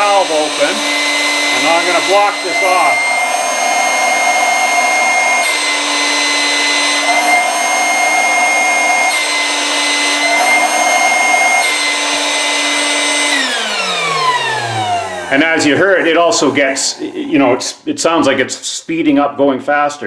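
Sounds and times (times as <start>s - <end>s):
air pump fan running: 0.0s - 17.5s.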